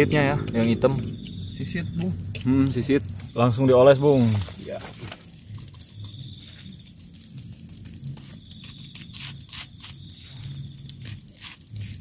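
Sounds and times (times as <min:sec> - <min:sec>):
sharp pops and ticks: 0:00.0 - 0:12.0
wood fire crackling: 0:00.0 - 0:12.0.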